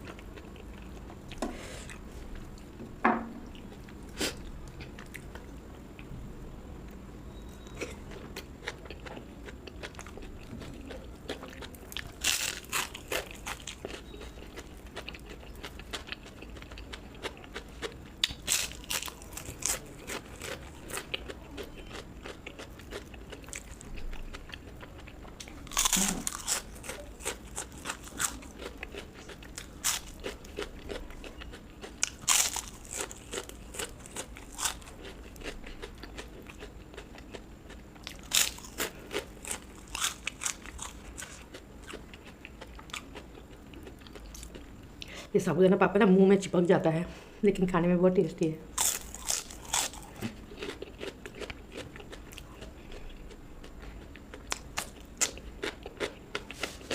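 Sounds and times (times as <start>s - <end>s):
crunching and chewing fried food: 0.0s - 2.8s, 3.4s - 6.1s, 7.6s - 45.2s, 48.7s - 56.9s.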